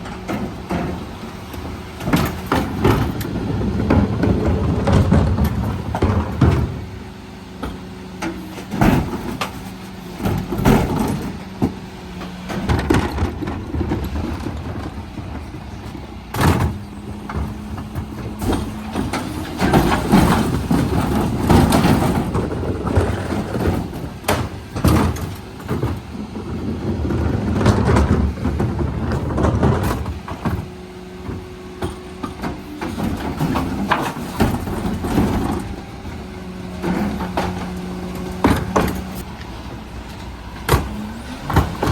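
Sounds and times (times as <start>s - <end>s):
rumbling and clatter: 0.0s - 41.9s.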